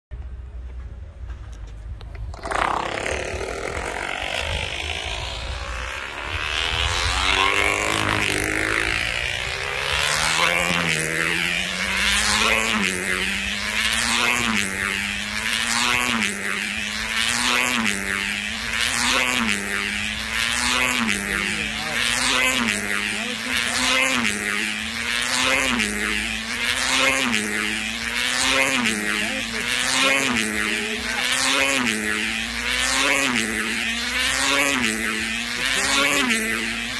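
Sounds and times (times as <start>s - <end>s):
small two-stroke engine whine: 0.2s - 36.9s.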